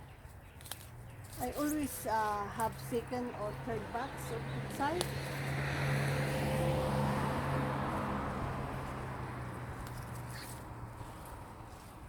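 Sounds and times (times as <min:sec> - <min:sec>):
vehicle passing by: 0:01.7 - 0:12.0.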